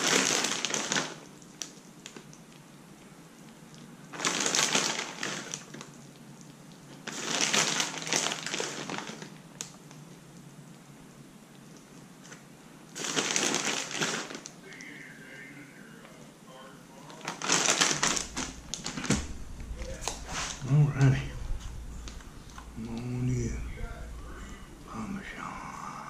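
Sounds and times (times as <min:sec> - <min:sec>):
crackly crunching noise: 0:00.0 - 0:26.0.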